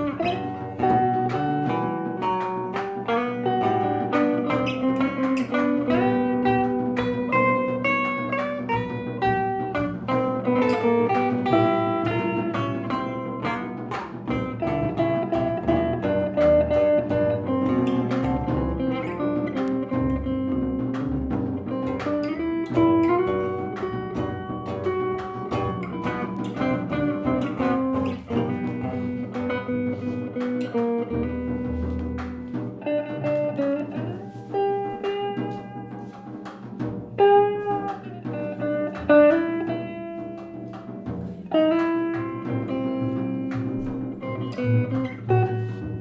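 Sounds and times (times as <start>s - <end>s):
plucked guitar: 0.0s - 46.0s.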